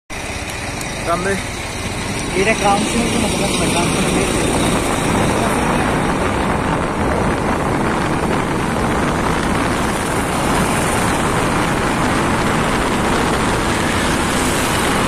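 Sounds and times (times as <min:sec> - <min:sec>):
road noise rumble: 0:00.1 - 0:15.0
wind rush: 0:00.1 - 0:15.0.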